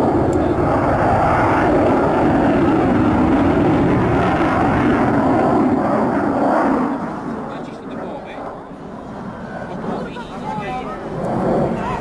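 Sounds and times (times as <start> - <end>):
loud deep jet noise: 0.0 - 12.0.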